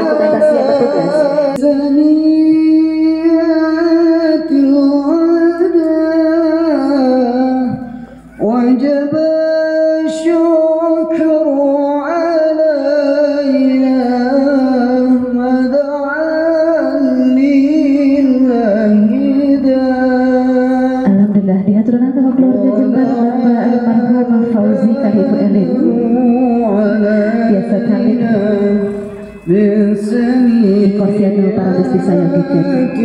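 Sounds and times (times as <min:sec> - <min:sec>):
person singing long wavering notes: 0:00.0 - 0:21.2, 0:22.4 - 0:33.0.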